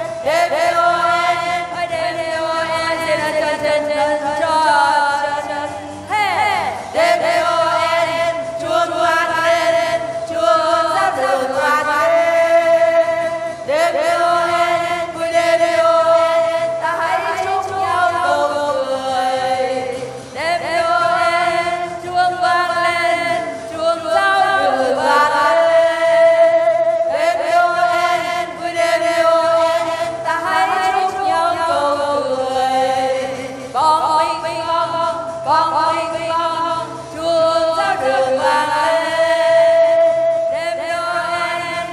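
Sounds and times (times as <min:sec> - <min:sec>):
choir singing a carol: 0:00.0 - 0:41.9
musical accompaniment: 0:00.0 - 0:41.9.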